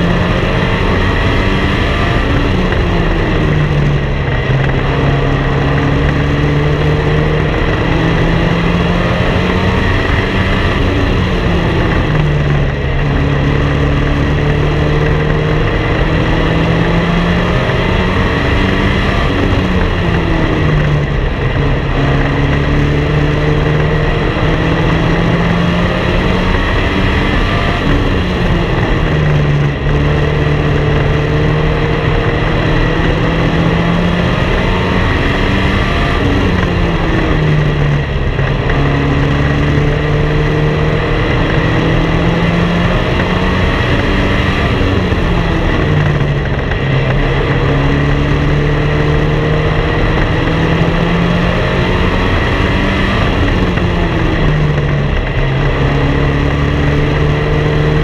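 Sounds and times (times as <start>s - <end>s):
race car engine: 0.0s - 58.0s
road and wind noise: 0.0s - 58.0s.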